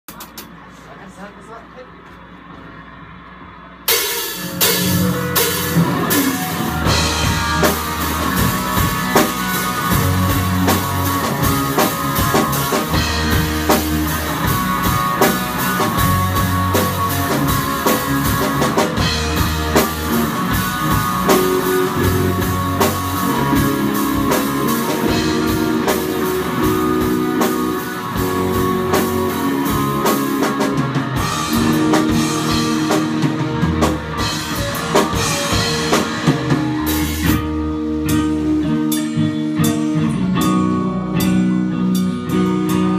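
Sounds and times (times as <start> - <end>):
rock band playing: 3.8 - 42.9
drum strikes: 3.9 - 39.0.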